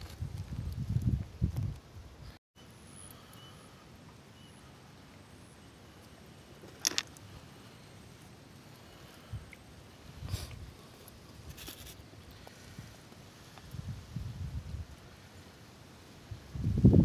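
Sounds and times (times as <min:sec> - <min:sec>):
faint steady hiss: 0:00.2 - 0:17.0.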